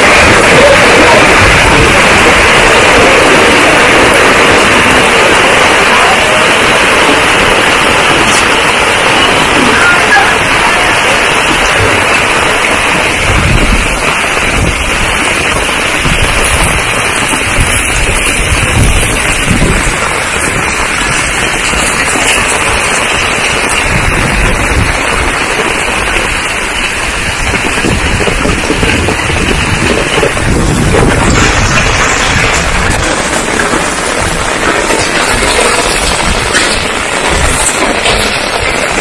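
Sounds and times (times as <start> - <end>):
heavy rain pouring: 0.0 - 39.0
low rumbles: 0.0 - 39.0.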